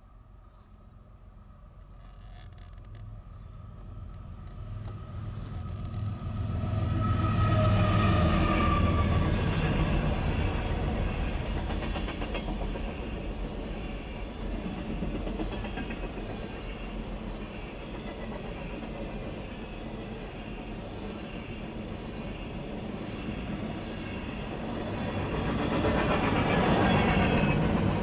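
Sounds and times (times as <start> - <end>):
train cars rolling on rails: 1.6 - 28.0
diesel locomotive rumble: 2.8 - 28.0.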